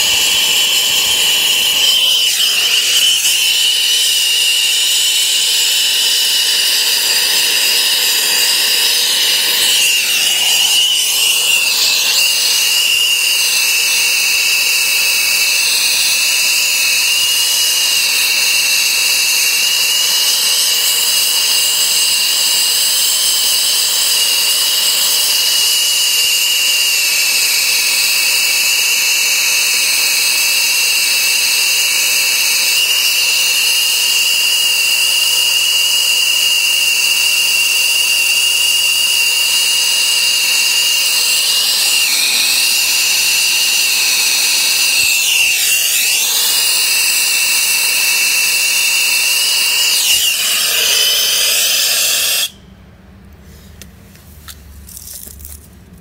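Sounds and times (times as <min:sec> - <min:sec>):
torch flame hissing and whistling: 0:00.0 - 0:52.6.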